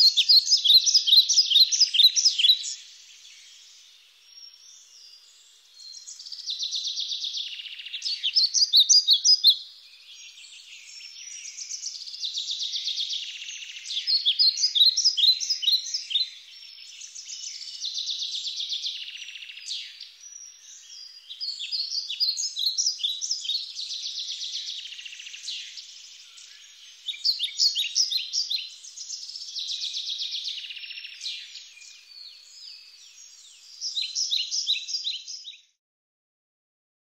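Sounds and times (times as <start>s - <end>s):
songbirds chirping and trilling: 0.0s - 35.8s.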